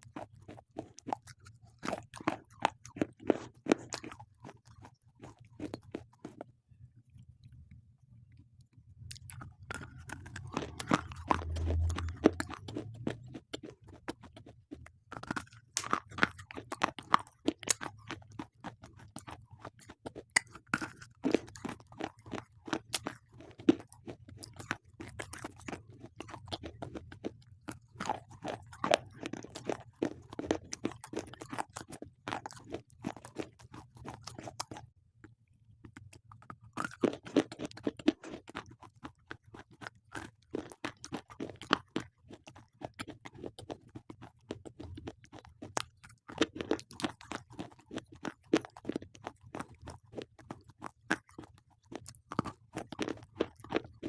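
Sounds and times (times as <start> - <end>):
brittle crunching between teeth: 0.0 - 6.5, 8.3 - 34.9, 35.8 - 54.0.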